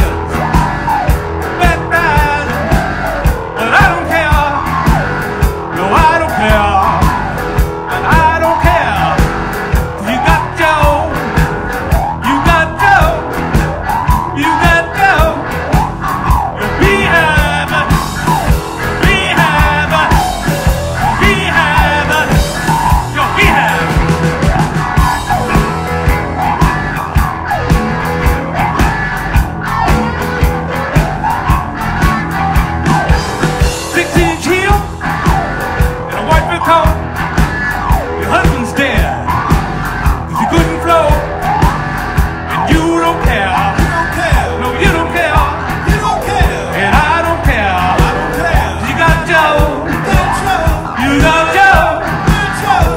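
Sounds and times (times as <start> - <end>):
man singing: 0.0 - 5.0, 5.7 - 26.6, 33.0 - 37.1, 38.0 - 39.5, 40.2 - 41.7, 42.5 - 52.9
drum kit beat: 0.0 - 52.9
electric bass: 0.0 - 52.9
electric guitar: 0.0 - 52.9.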